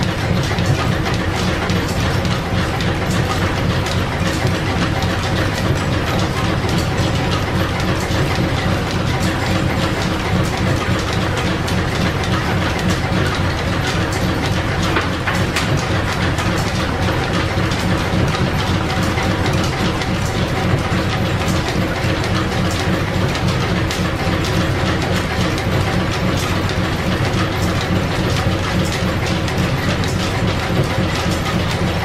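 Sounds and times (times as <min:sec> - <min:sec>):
belt-driven lathe clattering: 0:00.0 - 0:32.0.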